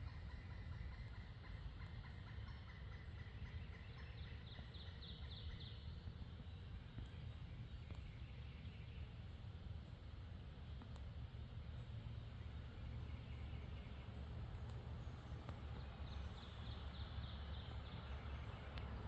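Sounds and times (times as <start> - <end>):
bird chirping: 0.0 - 9.4, 10.3 - 19.0.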